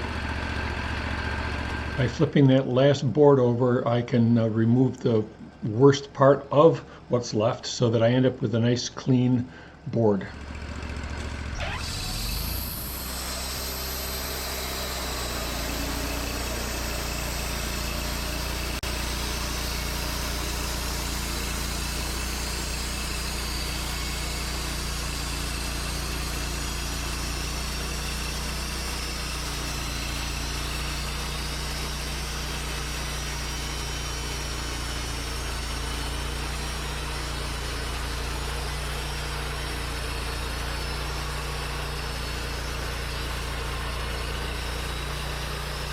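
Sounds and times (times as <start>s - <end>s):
band sawmill running: 0.0s - 45.9s.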